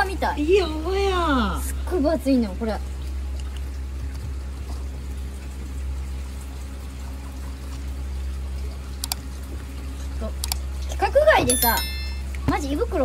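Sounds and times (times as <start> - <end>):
running water noise: 0.0 - 13.0
steady low hum: 0.0 - 13.0.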